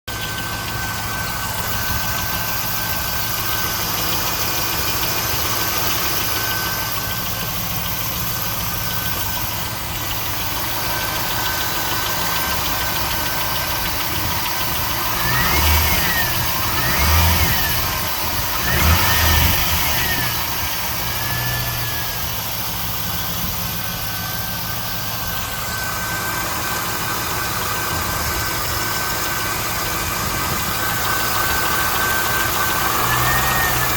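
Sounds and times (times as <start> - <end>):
car engine idling with ticking: 0.0 - 33.9
engine revving: 0.0 - 33.9.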